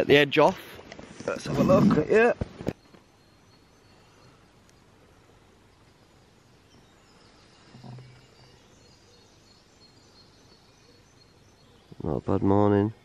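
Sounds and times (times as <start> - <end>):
faint distant birdsong: 0.0 - 13.0.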